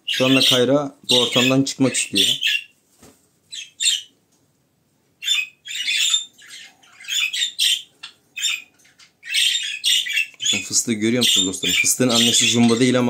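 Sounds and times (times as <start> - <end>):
budgerigars chirping and chattering: 0.0 - 2.8, 3.5 - 4.1, 5.2 - 13.0.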